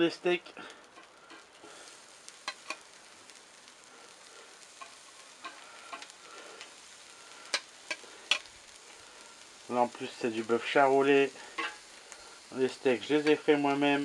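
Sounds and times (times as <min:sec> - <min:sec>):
meat sizzling on grill: 0:00.0 - 0:14.0.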